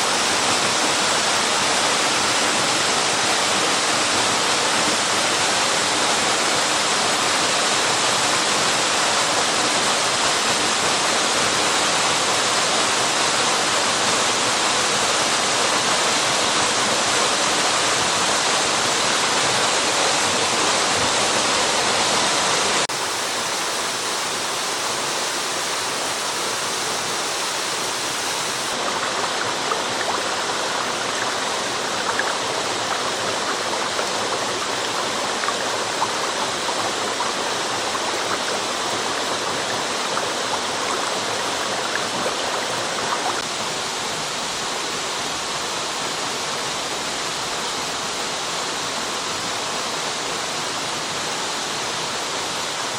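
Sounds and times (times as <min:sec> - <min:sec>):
water splashing and burbling: 0:00.0 - 0:43.8
waterfall rushing: 0:00.0 - 0:52.9.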